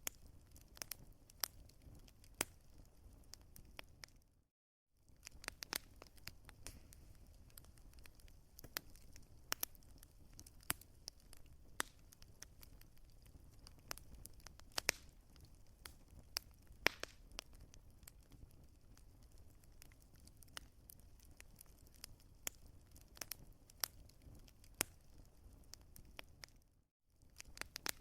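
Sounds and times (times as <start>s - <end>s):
wood fire crackling: 0.0s - 4.3s, 5.0s - 28.0s.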